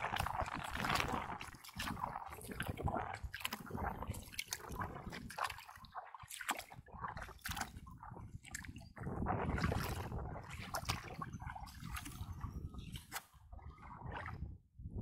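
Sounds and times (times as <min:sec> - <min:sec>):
water lapping against kayak hull: 0:00.0 - 0:15.0
small splashes and drips: 0:00.1 - 0:14.4.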